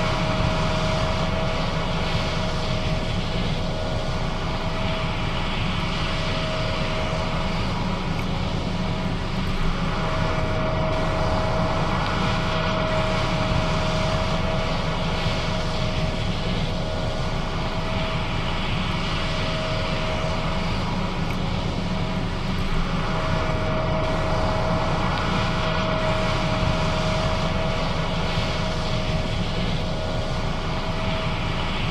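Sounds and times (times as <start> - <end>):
combine harvester engine drone: 0.0 - 31.9
high whine: 0.0 - 31.9.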